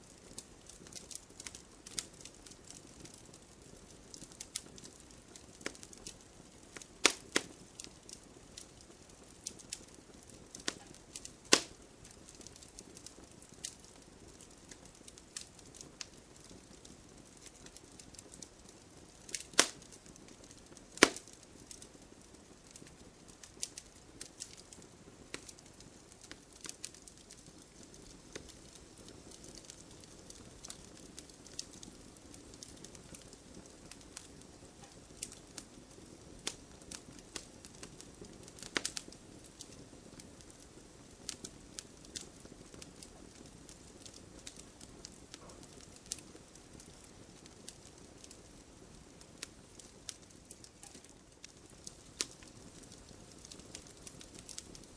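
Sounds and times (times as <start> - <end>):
soft rustle of flames: 0.0 - 54.9
wood fire crackling: 0.0 - 54.9.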